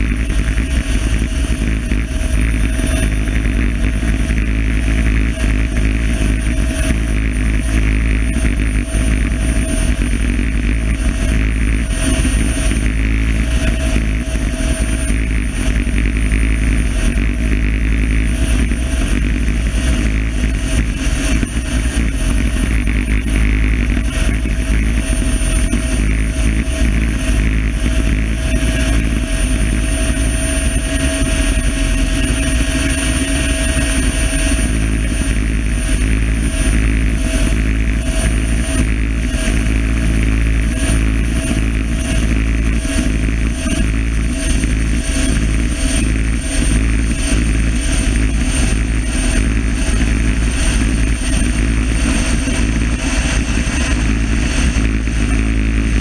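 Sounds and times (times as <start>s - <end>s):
helicopter low rumble: 0.0s - 56.0s
high-pitched turbine whine: 0.0s - 56.0s.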